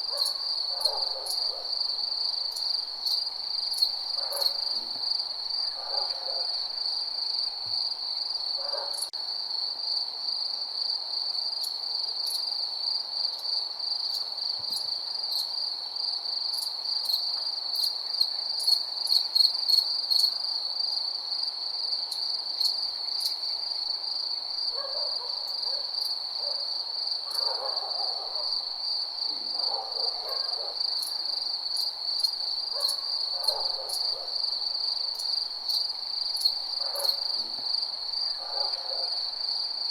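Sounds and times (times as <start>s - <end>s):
crickets chirping: 0.0s - 39.9s
lower cricket calls: 0.0s - 39.9s.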